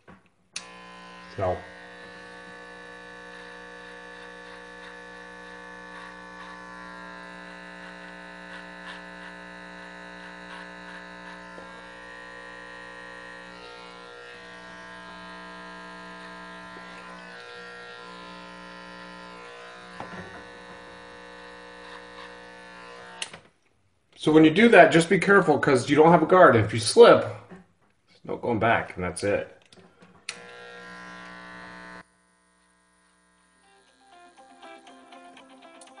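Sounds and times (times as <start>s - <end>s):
hair clippers buzzing: 0.5s - 23.5s, 29.2s - 36.0s.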